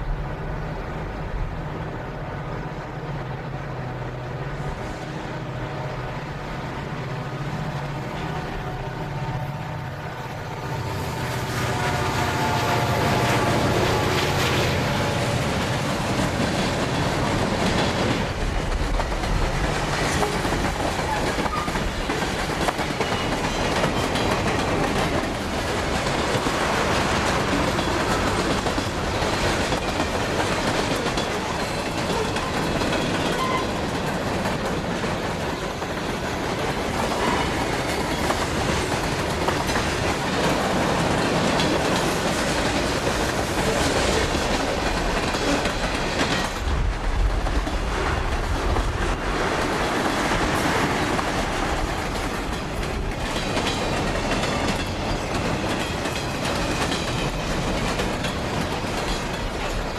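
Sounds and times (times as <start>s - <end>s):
train wheels clickety-clack: 10.4s - 59.9s.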